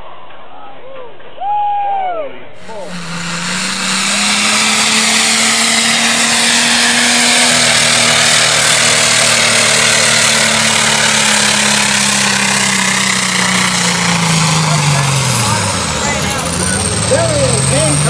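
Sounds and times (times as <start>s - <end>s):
tractor engine running loud: 2.6s - 18.0s.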